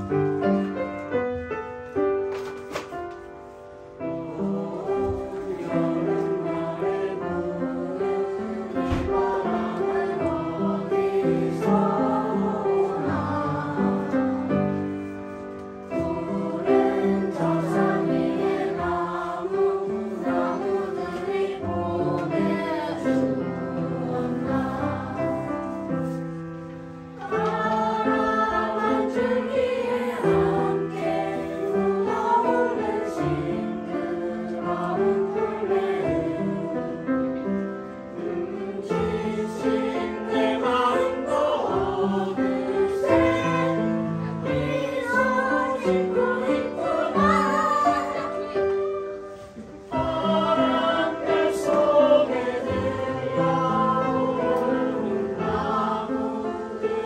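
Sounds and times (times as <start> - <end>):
children and adults singing: 0.0 - 1.4, 3.9 - 57.0
upright piano accompaniment: 0.0 - 57.0.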